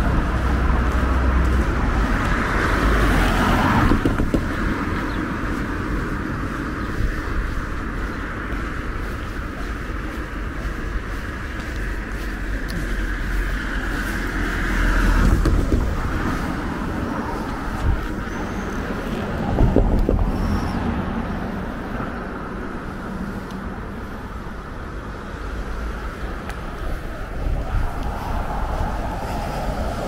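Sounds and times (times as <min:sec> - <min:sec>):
cars rushing by: 0:00.0 - 0:30.0.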